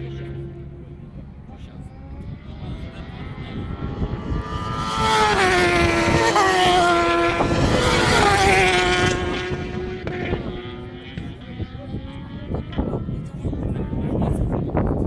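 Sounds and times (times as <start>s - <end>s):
motorbike engine passing: 0.0s - 14.6s.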